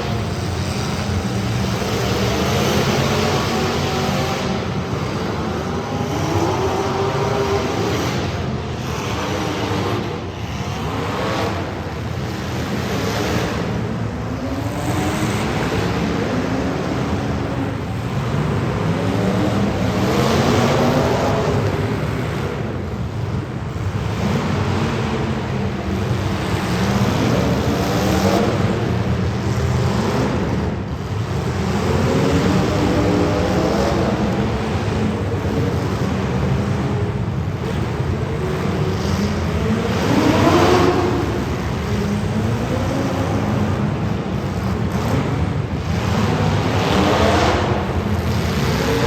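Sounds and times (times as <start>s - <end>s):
race car engines revving: 0.0s - 49.0s.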